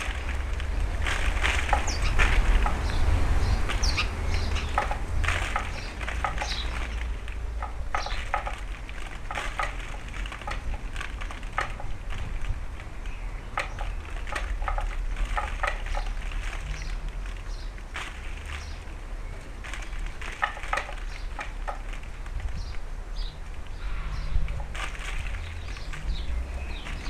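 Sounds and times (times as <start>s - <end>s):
beaks pecking at seed: 0.0s - 27.0s
wind rumble on microphone: 0.0s - 27.0s.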